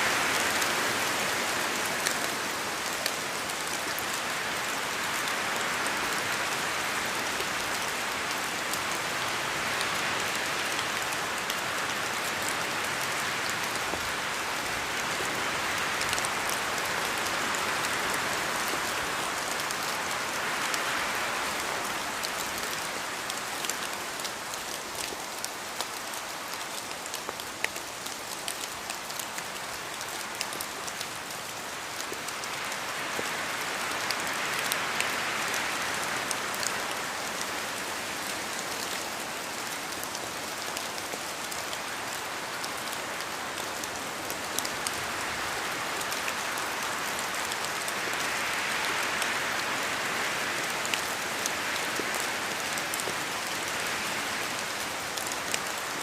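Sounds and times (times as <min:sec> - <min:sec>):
steady rain falling: 0:00.0 - 0:56.0
raindrops ticking close by: 0:00.2 - 0:56.0.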